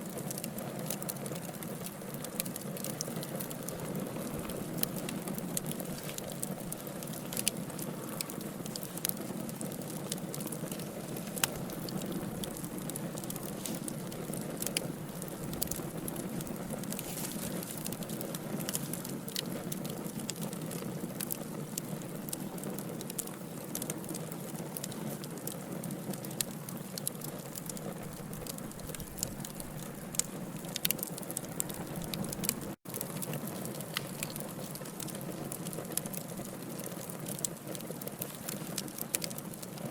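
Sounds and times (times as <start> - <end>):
fire low hiss: 0.0 - 39.9
wood fire crackling and popping: 0.0 - 39.9.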